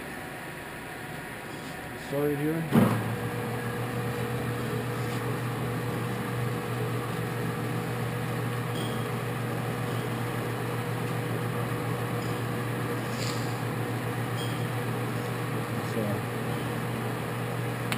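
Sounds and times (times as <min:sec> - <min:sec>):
lathe running hum: 0:00.0 - 0:17.9.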